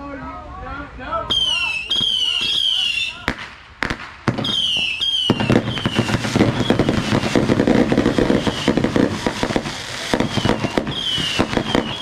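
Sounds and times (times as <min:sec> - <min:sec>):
firework whistles falling in pitch: 0:01.3 - 0:03.3, 0:04.3 - 0:12.0
fireworks popping and crackling: 0:01.3 - 0:12.0.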